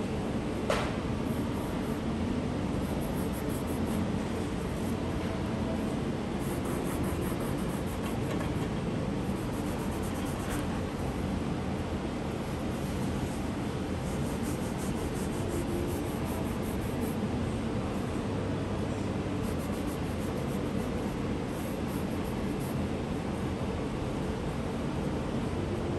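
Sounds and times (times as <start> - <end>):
ventilation hum and hiss: 0.0 - 25.9.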